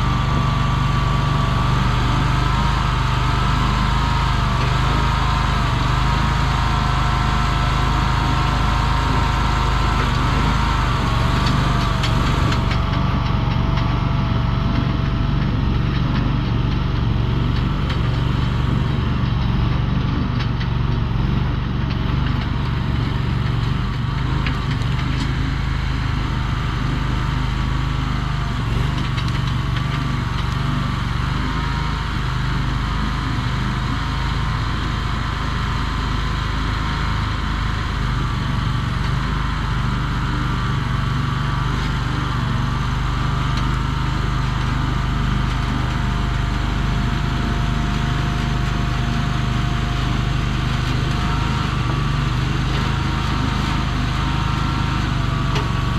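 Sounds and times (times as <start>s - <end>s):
skid steer engine running: 0.0s - 55.9s.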